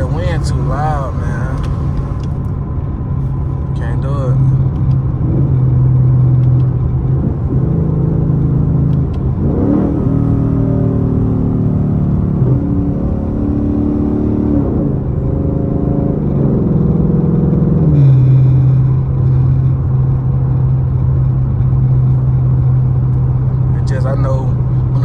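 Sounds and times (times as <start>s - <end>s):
car engine from inside cabin: 0.0s - 25.0s.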